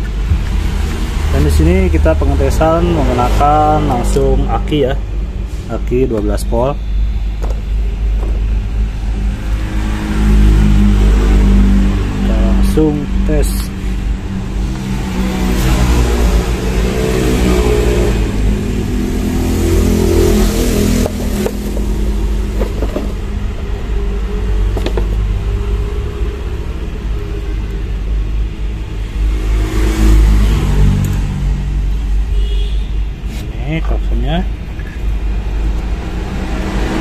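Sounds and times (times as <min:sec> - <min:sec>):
traffic engine rumble: 0:00.0 - 0:37.0
vehicles passing: 0:00.0 - 0:37.0.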